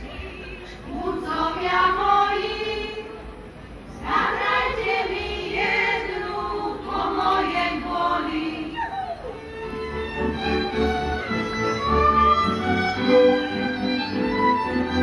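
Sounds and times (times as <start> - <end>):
women's choir singing folk song: 0.3 - 8.9, 10.7 - 15.0.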